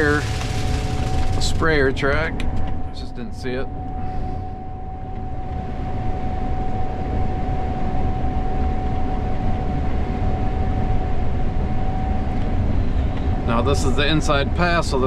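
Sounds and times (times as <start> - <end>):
combine harvester low drone: 0.0 - 15.0
high-pitched machine whine: 0.0 - 15.0.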